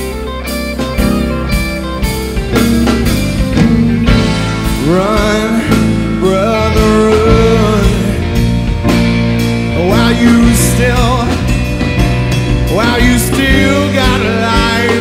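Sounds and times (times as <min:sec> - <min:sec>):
bass: 0:00.0 - 0:15.0
drums: 0:00.0 - 0:15.0
electric guitar lead: 0:00.0 - 0:15.0
keyboards: 0:00.0 - 0:15.0.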